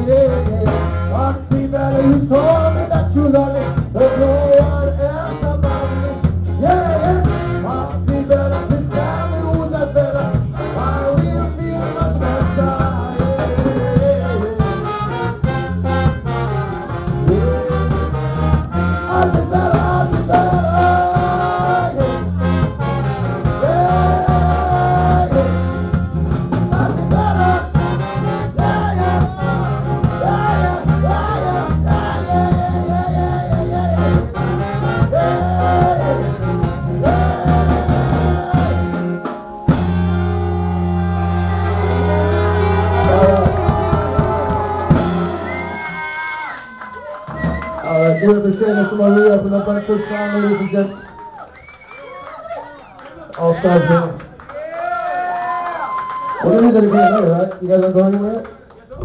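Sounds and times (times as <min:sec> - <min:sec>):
horn section playing: 0:00.0 - 0:50.8
ska band playing: 0:00.0 - 0:51.1.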